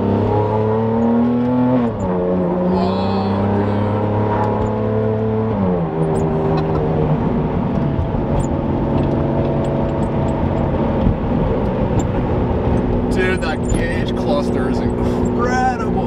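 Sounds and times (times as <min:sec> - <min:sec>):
sports car engine shifting up: 0:00.0 - 0:16.0.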